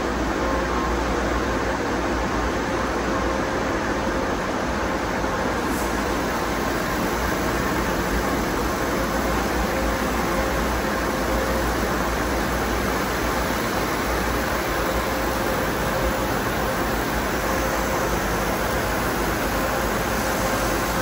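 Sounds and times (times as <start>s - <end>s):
faint constant hum: 0.0s - 21.0s.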